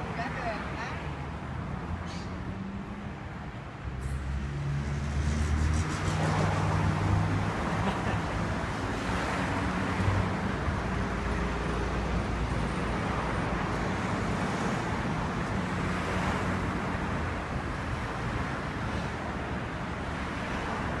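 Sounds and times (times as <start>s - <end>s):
passing car engines: 0.0s - 21.0s.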